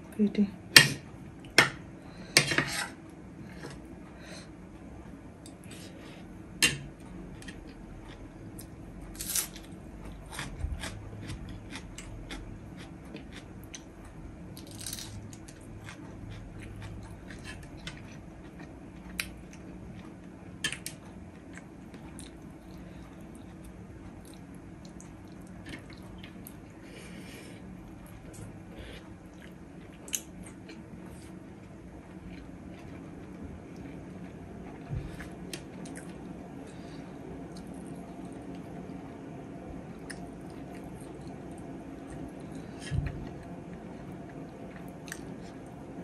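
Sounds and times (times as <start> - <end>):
faint steady hum: 0.0 - 46.0
close chewing and eating: 7.0 - 39.1, 39.8 - 46.0.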